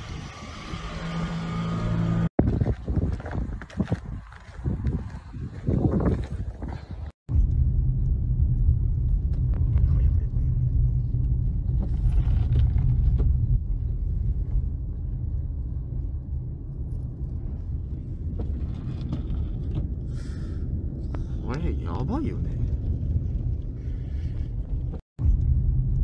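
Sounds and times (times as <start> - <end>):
blizzard wind buffeting microphone: 0.0 - 26.0.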